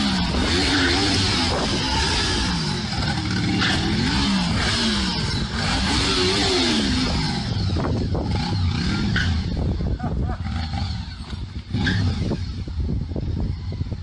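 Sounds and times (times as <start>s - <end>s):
engine revving with clatter: 0.0s - 13.9s.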